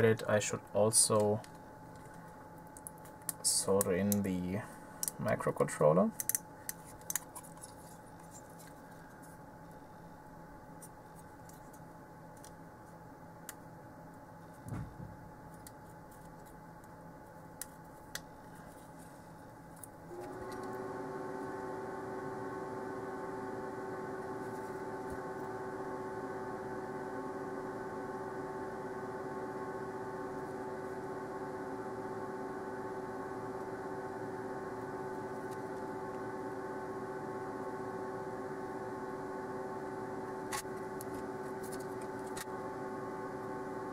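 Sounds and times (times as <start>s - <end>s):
extractor fan hum: 0.0s - 43.9s.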